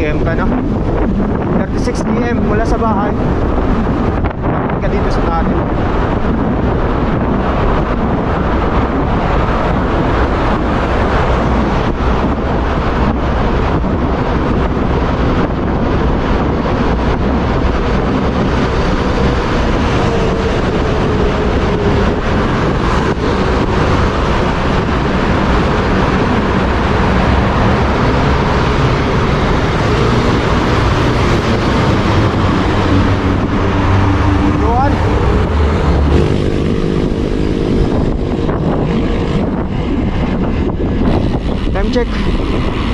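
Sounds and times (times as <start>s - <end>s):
wind rushing on microphone: 0.0s - 42.9s.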